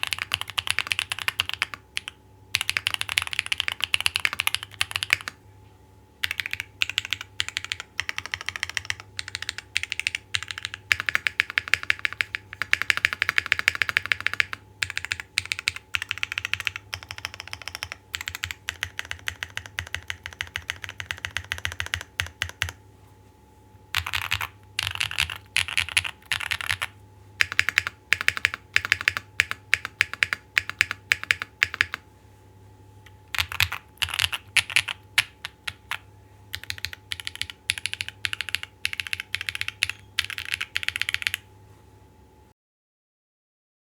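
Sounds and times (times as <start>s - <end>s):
mechanical keyboard typing: 0.0s - 5.4s, 6.2s - 22.8s, 23.9s - 32.0s, 33.1s - 41.5s.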